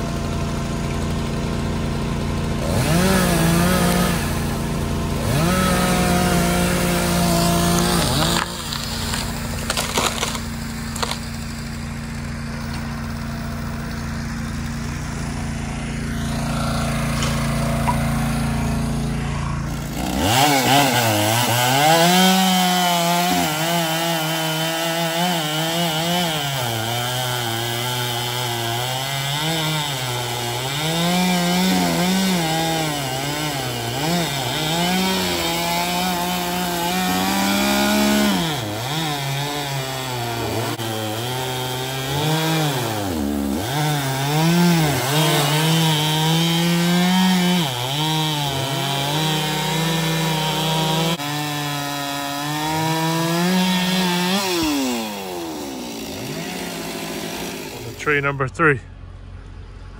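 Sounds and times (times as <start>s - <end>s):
chainsaw cutting wood: 0.0s - 58.4s.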